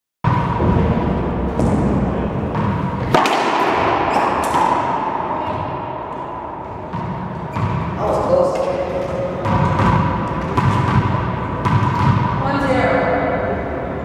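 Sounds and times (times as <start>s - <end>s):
racquetball ball hitting walls: 0.3s - 12.5s
steady hum: 0.3s - 14.0s.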